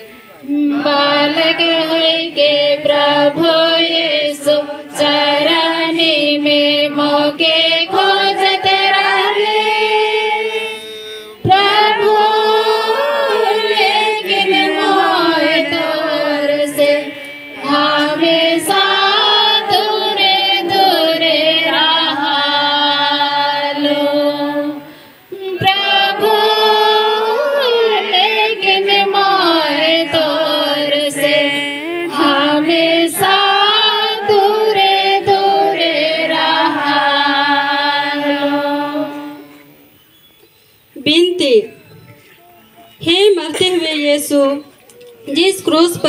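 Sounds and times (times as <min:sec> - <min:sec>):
voices singing a slow hymn: 0:00.0 - 0:41.0.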